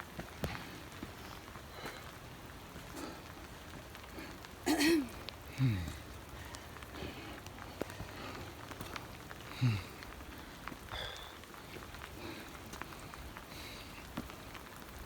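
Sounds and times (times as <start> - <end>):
rain drops ticking close by: 0.0 - 15.0
steady rain: 0.0 - 15.0.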